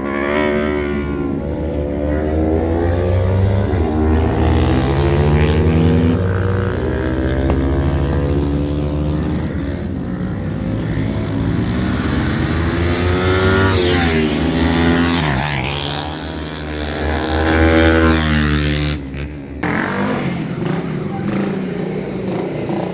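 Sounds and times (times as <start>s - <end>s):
motorcycle engines at high revs: 0.0s - 22.9s.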